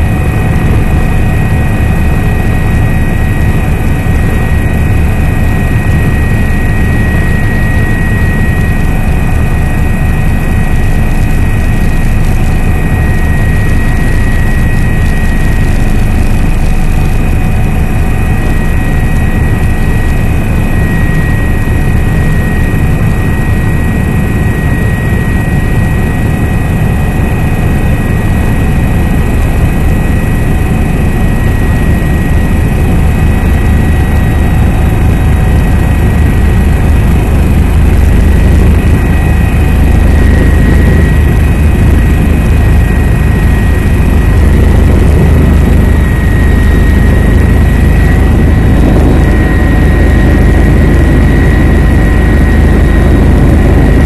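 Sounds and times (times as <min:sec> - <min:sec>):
helicopter running: 0:00.0 - 0:54.0.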